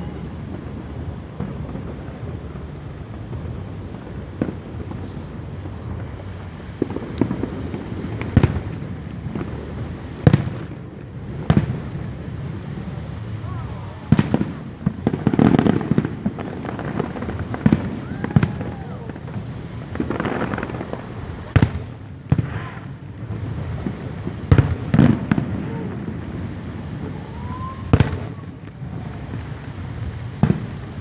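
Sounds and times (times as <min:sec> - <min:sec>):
fireworks bangs and booms: 0:00.0 - 0:31.0.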